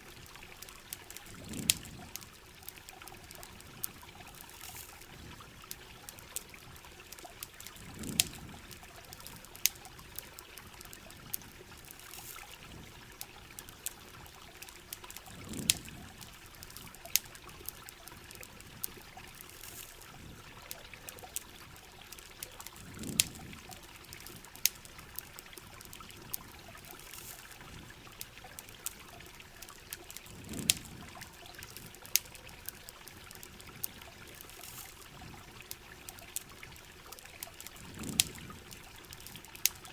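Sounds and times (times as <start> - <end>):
sharp ticks and crackles: 0.0 - 39.9.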